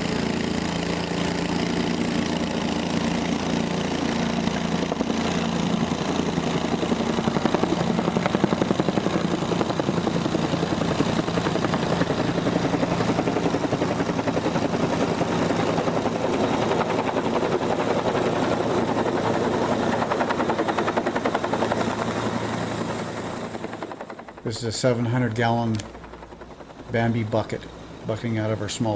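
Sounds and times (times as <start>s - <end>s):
helicopter rotor beating: 0.0s - 28.9s.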